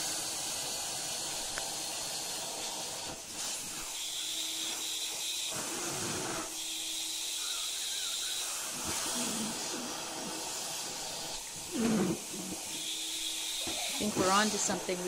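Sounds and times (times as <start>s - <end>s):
vacuum hose hissing: 0.0s - 15.0s.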